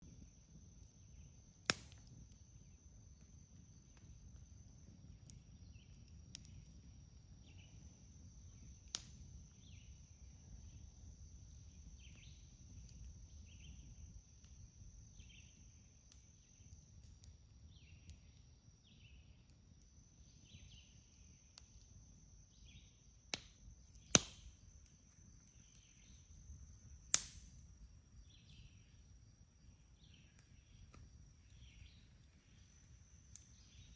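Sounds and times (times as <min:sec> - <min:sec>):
campfire wood popping: 0:00.0 - 0:33.9.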